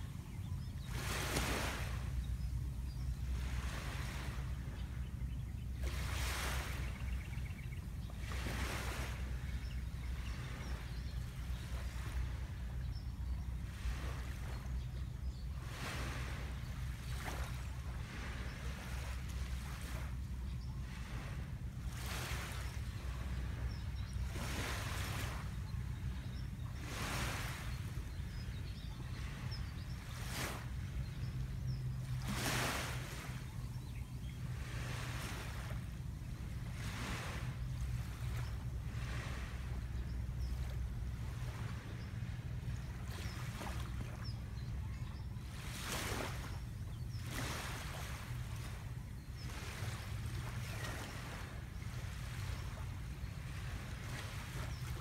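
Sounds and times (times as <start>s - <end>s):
waves lapping on sandy beach: 0.0s - 55.0s.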